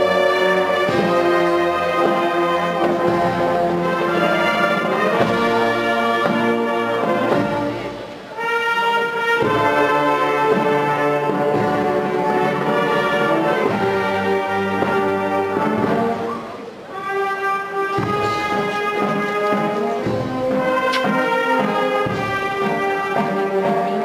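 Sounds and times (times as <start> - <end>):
brass music with sustained chords: 0.0 - 24.0.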